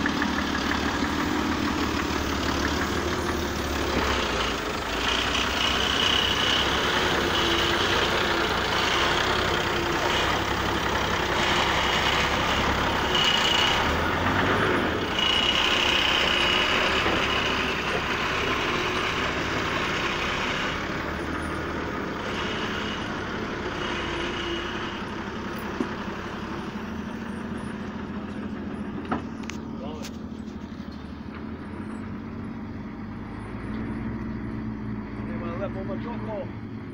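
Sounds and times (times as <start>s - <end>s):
high hydraulic whine: 0.0s - 32.4s
diesel truck engine running: 0.0s - 36.9s.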